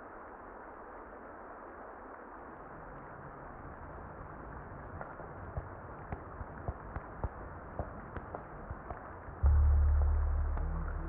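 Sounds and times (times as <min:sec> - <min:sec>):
muffled rain: 0:00.0 - 0:11.0.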